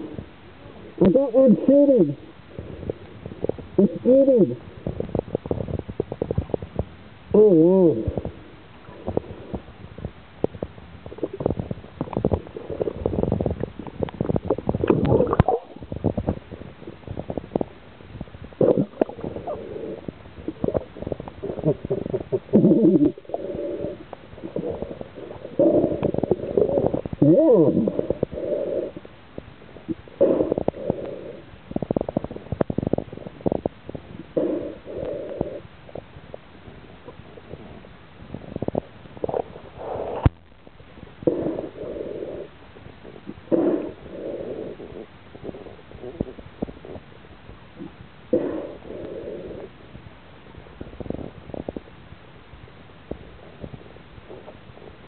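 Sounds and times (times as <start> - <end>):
underwater bubbling and gurgling: 0.0 - 7.4, 8.0 - 55.0.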